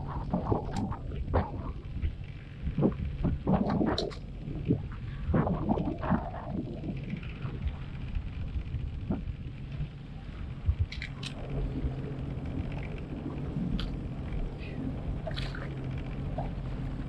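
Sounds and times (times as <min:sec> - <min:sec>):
water slapping against hull: 0:00.0 - 0:17.0
wind rumbling on microphone: 0:00.0 - 0:17.0.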